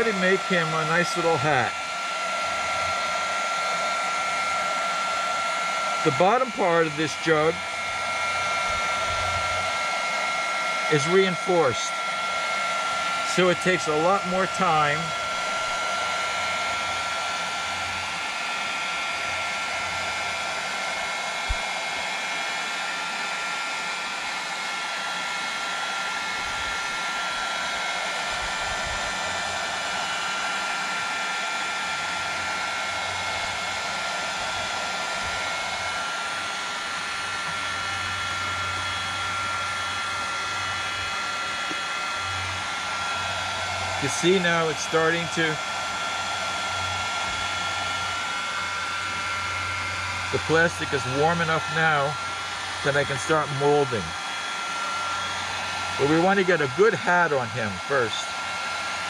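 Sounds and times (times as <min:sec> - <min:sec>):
heat gun blowing with whine: 0:00.0 - 0:59.0.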